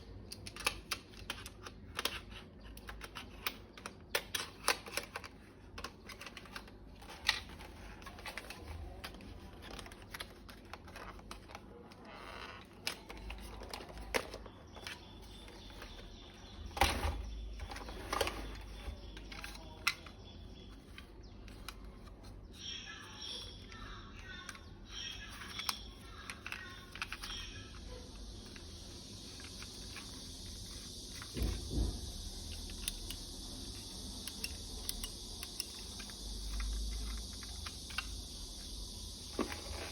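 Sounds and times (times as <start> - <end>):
plastic toy parts clicking: 0.0 - 11.7, 12.6 - 22.3, 23.4 - 31.7, 32.3 - 39.1.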